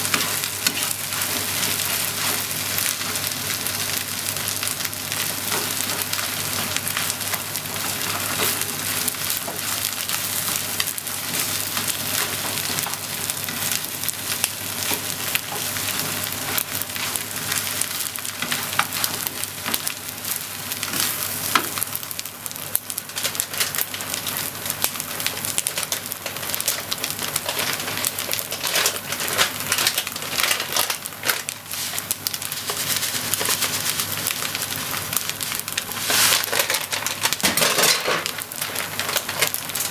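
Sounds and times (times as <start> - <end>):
rice sizzling in a frying pan: 0.0 - 39.9.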